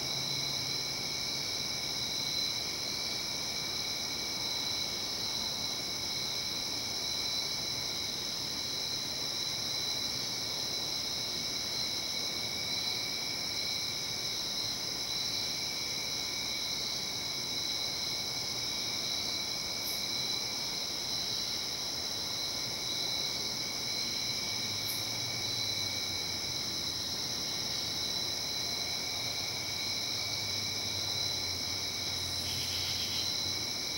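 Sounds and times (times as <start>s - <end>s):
night insects chorus: 0.0s - 33.9s.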